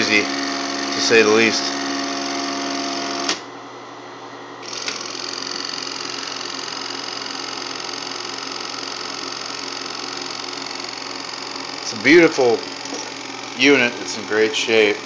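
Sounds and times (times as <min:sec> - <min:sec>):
film projector clattering: 0:00.0 - 0:03.4, 0:04.6 - 0:15.0
projector high whine: 0:00.0 - 0:15.0.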